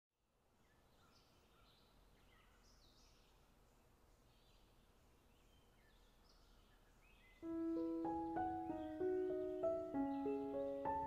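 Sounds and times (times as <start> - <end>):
faint birds chirping: 0.2 - 11.0
low outdoor hush: 0.2 - 11.0.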